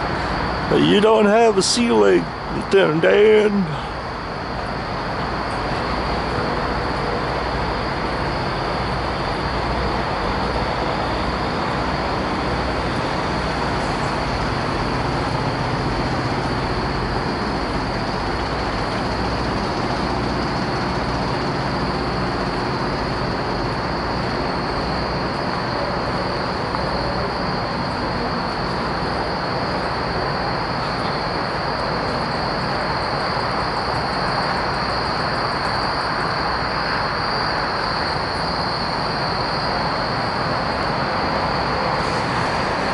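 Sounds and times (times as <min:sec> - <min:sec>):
diesel truck engines idling: 0:00.0 - 0:42.9
steady high-pitched tone: 0:00.0 - 0:42.9.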